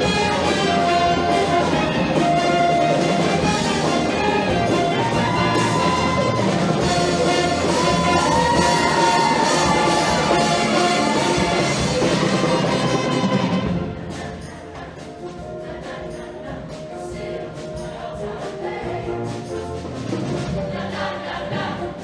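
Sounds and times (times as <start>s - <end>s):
choir singing with band: 0.0s - 22.0s.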